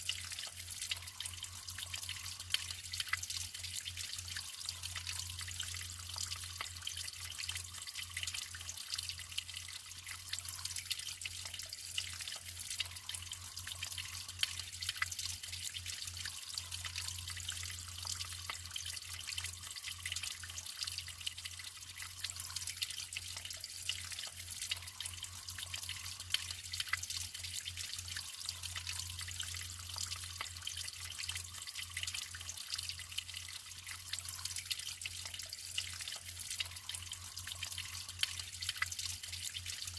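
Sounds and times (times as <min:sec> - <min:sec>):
running water trickling and splashing: 0:00.0 - 0:39.9.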